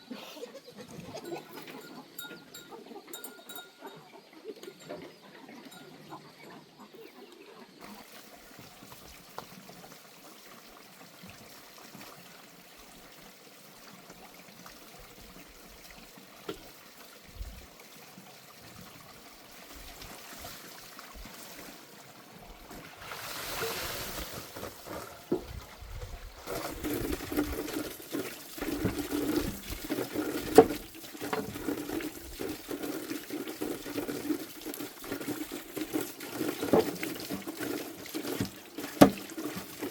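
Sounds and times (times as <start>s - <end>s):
water trickling and splashing: 7.8s - 39.9s.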